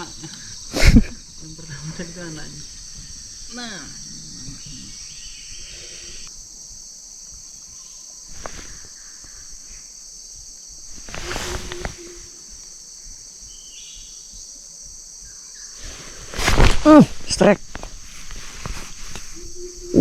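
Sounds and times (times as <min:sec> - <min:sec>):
forest insects chorus: 0:00.0 - 0:20.0.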